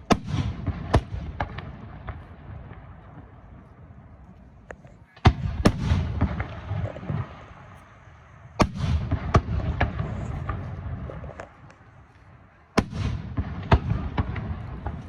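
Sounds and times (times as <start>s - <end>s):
fireworks bursting with sharp bangs: 0.0s - 15.0s.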